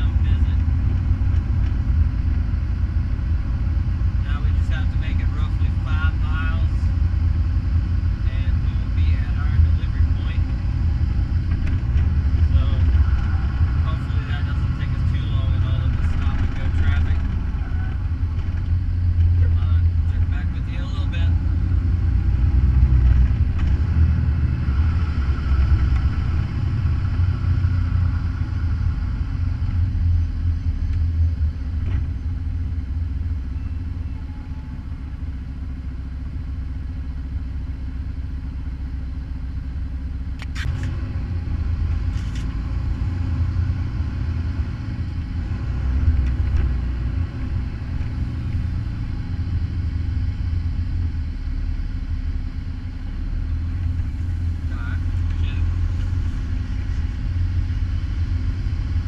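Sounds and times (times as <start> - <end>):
diesel truck engine rumbling: 0.0 - 59.0.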